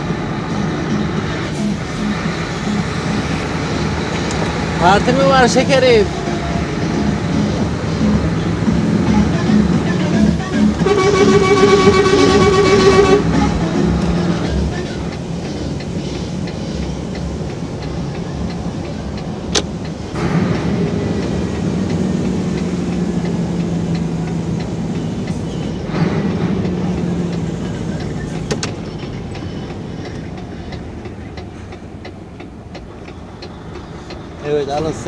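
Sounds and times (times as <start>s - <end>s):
diesel truck engine from cab: 0.0s - 35.0s.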